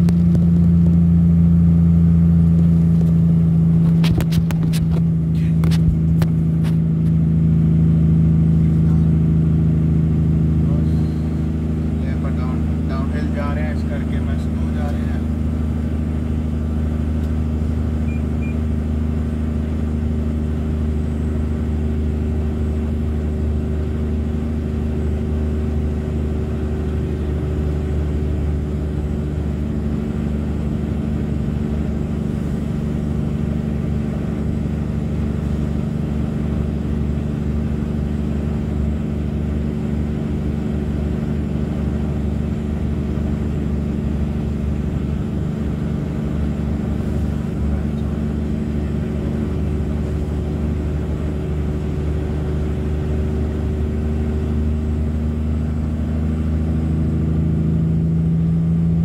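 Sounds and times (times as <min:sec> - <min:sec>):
truck diesel engine drone: 0:00.0 - 0:59.0.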